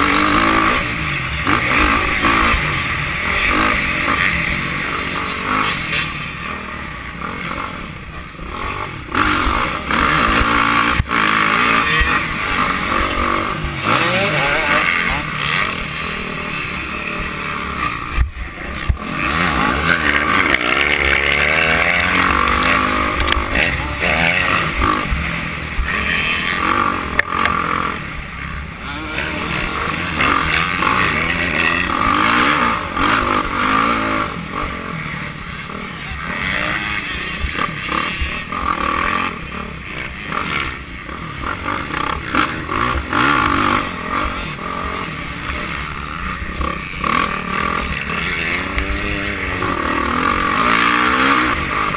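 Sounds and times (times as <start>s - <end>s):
dirt bike engines racing: 0.0s - 51.9s.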